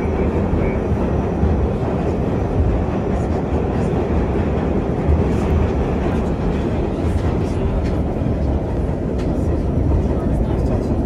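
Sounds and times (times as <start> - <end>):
subway car rumbling through tunnel: 0.0 - 11.0.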